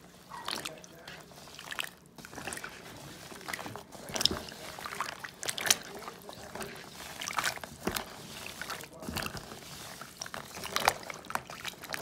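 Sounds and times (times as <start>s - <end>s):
water sloshing: 0.0s - 12.0s.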